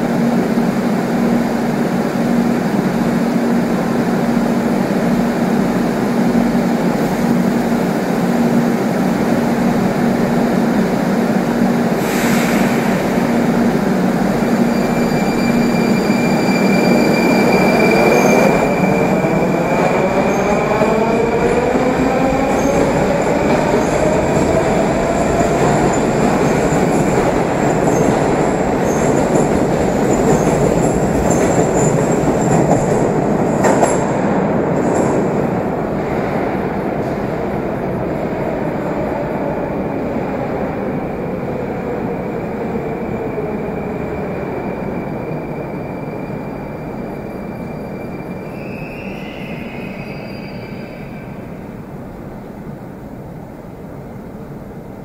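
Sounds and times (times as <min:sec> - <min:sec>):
train humming: 0:00.0 - 0:55.0.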